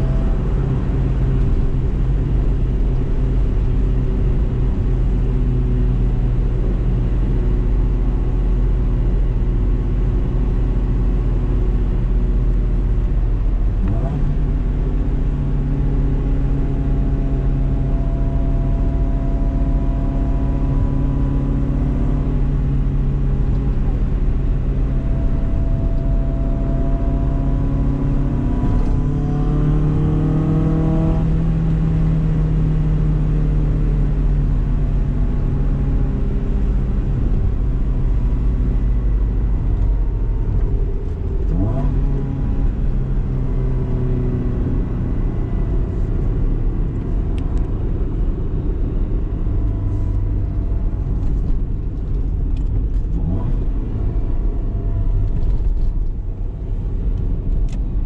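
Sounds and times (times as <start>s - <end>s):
car engine accelerating: 0.0s - 58.0s
road and tyre noise: 0.0s - 58.0s.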